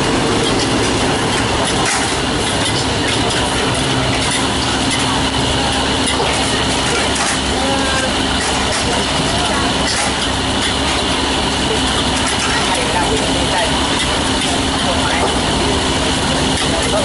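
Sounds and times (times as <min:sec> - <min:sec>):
gas burner flame rushing: 0:00.0 - 0:17.0.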